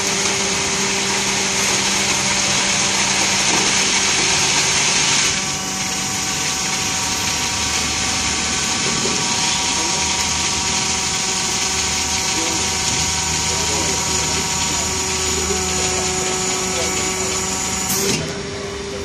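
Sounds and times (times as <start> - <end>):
hydraulic pump whine: 0.0 - 19.0.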